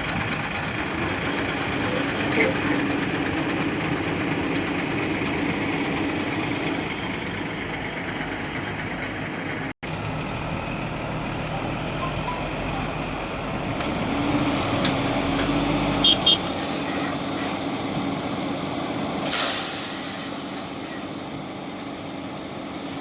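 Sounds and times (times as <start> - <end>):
diesel construction machinery: 0.0 - 23.0.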